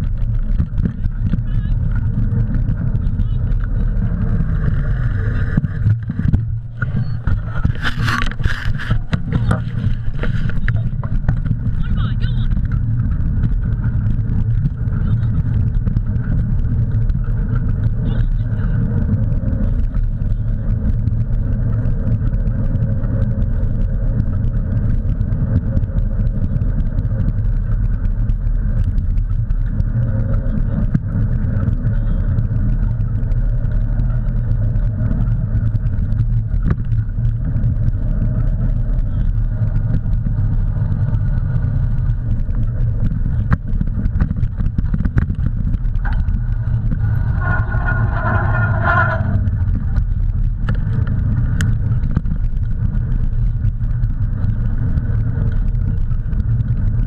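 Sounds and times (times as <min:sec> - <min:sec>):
wheels rumbling on dirt road: 0:00.0 - 0:57.0
wind on microphone: 0:00.0 - 0:57.0.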